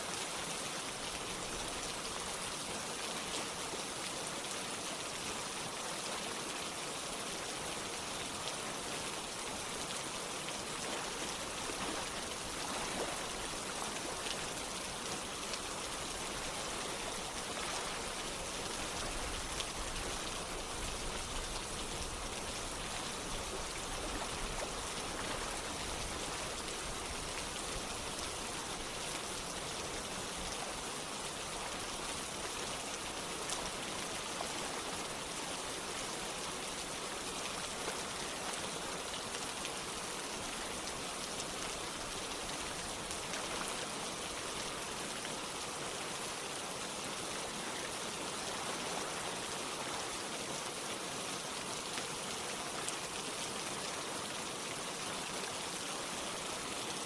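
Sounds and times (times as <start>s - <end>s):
running water: 0.0s - 57.0s
steady rain: 0.0s - 57.0s.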